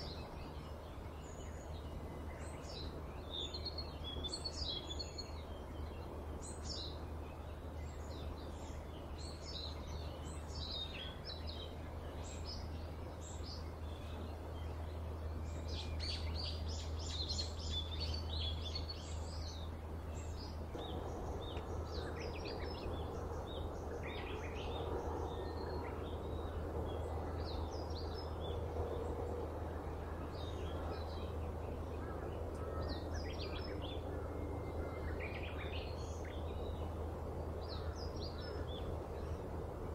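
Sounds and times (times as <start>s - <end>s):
faint drone: 0.0s - 39.9s
low background hum: 0.0s - 39.9s
small birds chirping: 0.0s - 39.9s.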